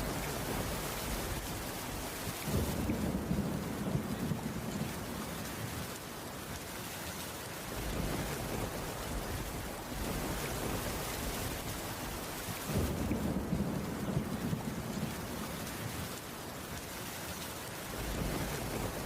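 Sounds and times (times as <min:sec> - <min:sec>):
heavy rain on a wooden roof: 0:00.0 - 0:19.0.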